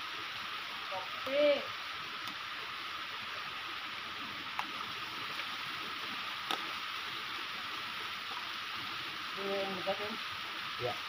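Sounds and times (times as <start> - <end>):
waterfall splashing onto rocks: 0.0 - 11.0.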